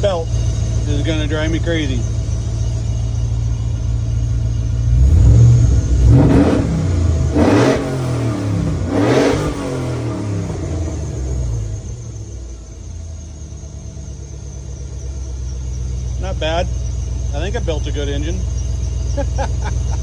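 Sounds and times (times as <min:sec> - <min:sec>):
truck engine idling and revving: 0:00.0 - 0:20.0.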